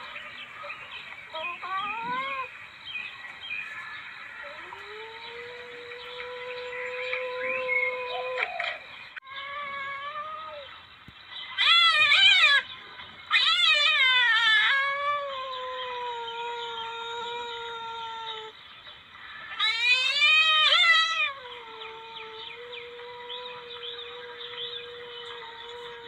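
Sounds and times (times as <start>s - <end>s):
civet yowling calls: 0.0s - 2.6s, 3.6s - 10.8s, 11.5s - 18.6s, 19.2s - 26.0s
long steady animal call: 0.0s - 26.0s.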